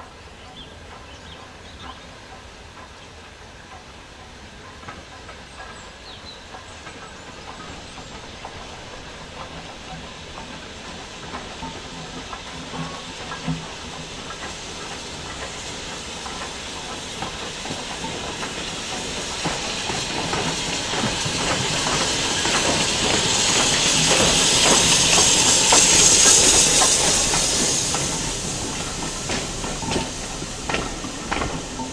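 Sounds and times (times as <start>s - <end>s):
steam train hissing: 0.0s - 31.9s
wheels clicking on rails: 0.6s - 31.9s.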